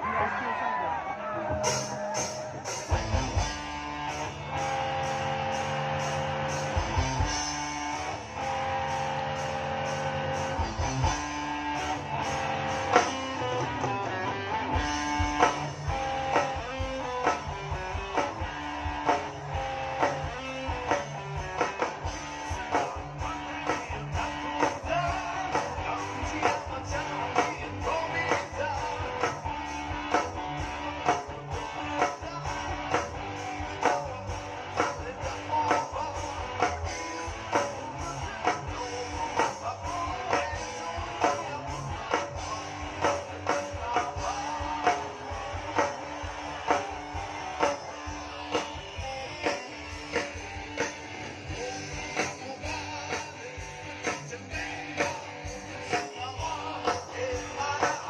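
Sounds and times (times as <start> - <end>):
electric guitars strumming: 0.0 - 58.0
live rock band playing: 0.0 - 58.0.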